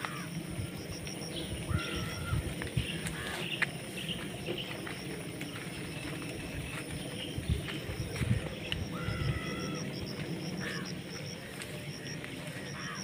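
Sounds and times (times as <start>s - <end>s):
steady high-pitched hum: 0.0s - 13.0s.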